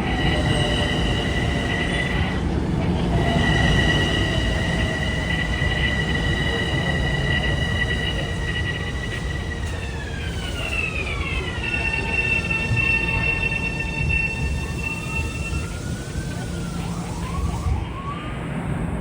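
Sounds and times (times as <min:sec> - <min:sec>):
sliding wheel squeals: 0:00.0 - 0:17.3
train rumble: 0:00.0 - 0:19.0
train wheel and motor whine: 0:00.0 - 0:19.0.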